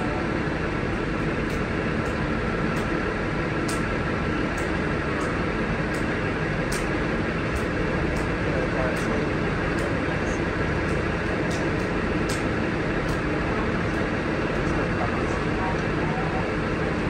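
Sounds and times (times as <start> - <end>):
idling train hum: 0.0 - 17.0.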